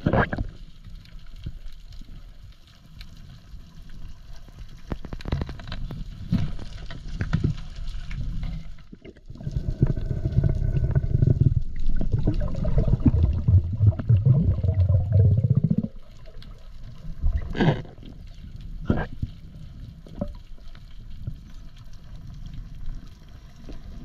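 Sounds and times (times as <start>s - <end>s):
water sloshing and gurgling: 0.0s - 24.0s.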